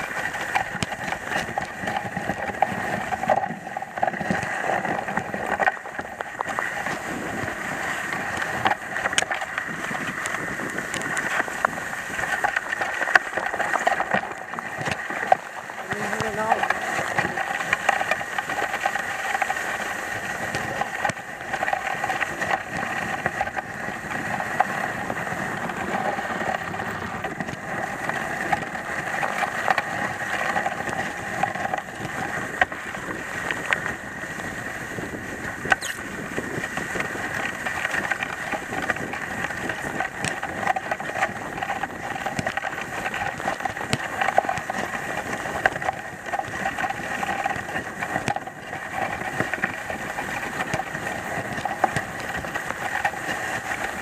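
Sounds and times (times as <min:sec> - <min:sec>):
sled runners scraping on snow: 0:00.0 - 0:54.0.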